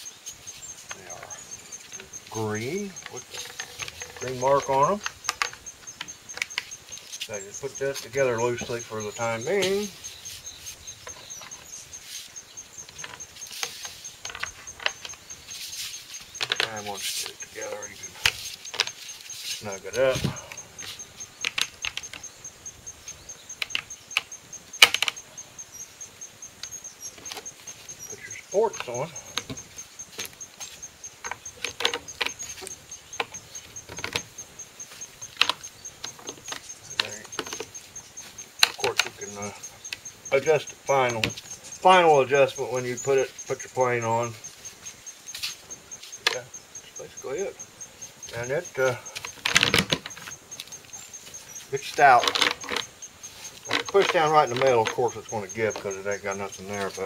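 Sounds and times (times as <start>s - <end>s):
high pulsing insect call: 0.0s - 57.0s.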